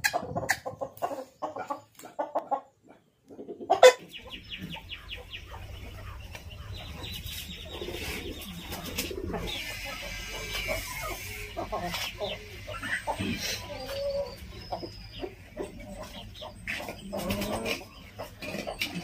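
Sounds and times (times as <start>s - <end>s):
rooster clucking: 0.0s - 19.0s.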